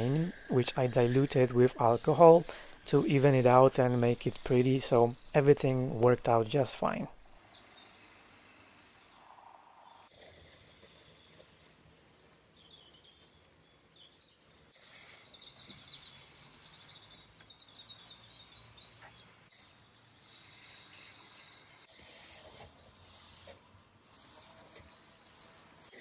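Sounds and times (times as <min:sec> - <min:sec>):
birds chirping: 0:00.0 - 0:25.8.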